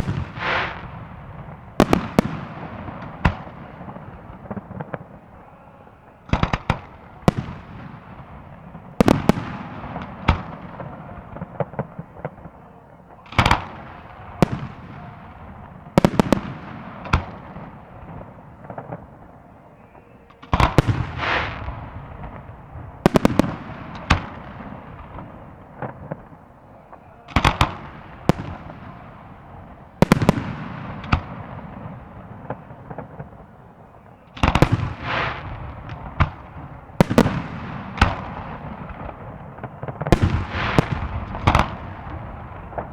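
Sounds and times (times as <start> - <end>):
fireworks bursting with bangs: 0.0 - 42.9.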